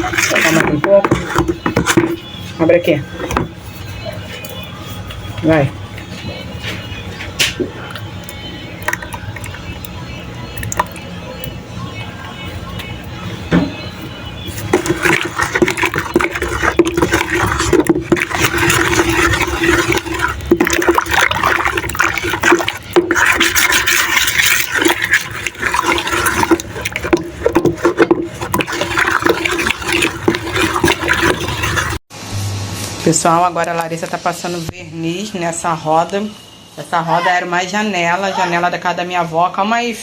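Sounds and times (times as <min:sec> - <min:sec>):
liquid sloshing in a container: 0:00.0 - 0:32.0.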